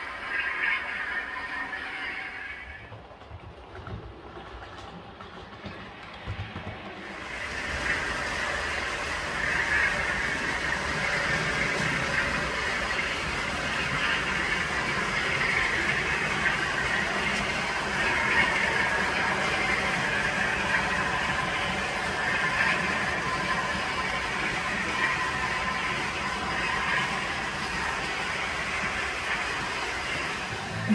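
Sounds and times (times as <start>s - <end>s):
model trains running on rails: 0.0s - 30.9s.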